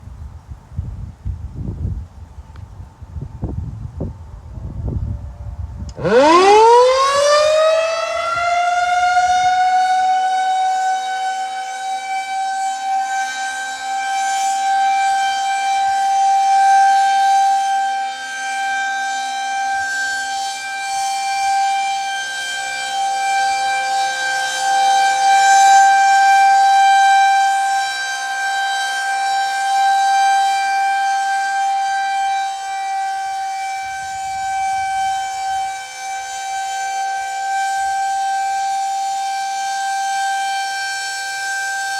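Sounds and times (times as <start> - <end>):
warning siren wailing: 4.4 - 41.9.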